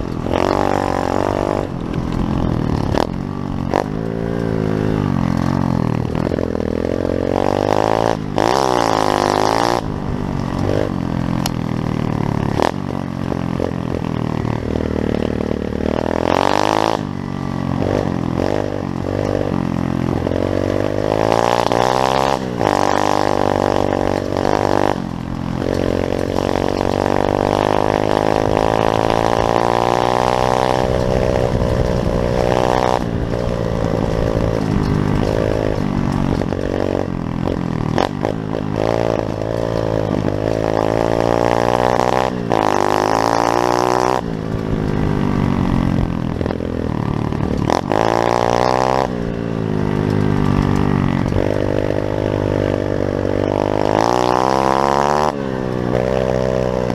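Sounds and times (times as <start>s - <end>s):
small motorbike engine revving: 0.0s - 56.9s.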